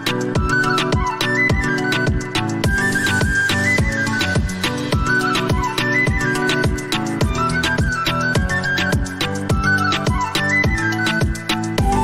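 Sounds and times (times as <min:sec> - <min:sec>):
electronic beat with kick drums: 0:00.0 - 0:12.0
flute-like melody: 0:00.0 - 0:12.0.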